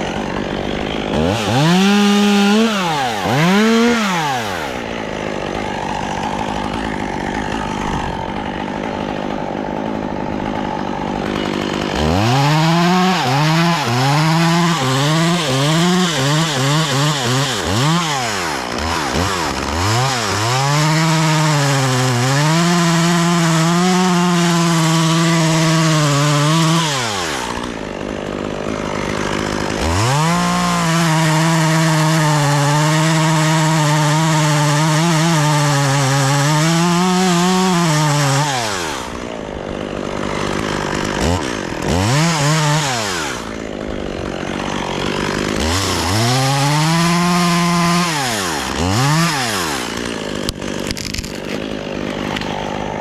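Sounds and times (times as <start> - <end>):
chainsaw revving and cutting: 0.0 - 53.0.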